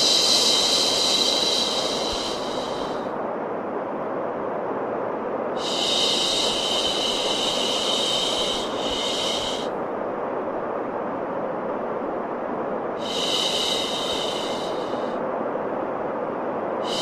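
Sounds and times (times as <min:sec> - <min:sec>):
high hiss: 0:00.0 - 0:17.0
steady white noise: 0:00.0 - 0:17.0.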